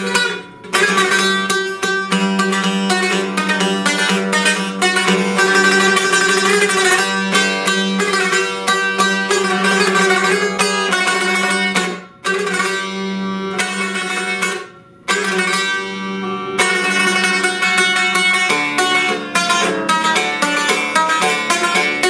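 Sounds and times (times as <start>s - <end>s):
plucked lute melody: 0.0s - 22.0s.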